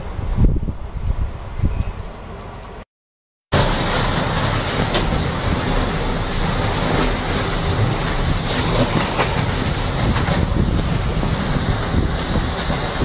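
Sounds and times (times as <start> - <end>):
strong wind blowing: 0.0 - 2.4, 3.6 - 13.0
wind buffeting microphone: 0.0 - 2.4, 3.6 - 13.0.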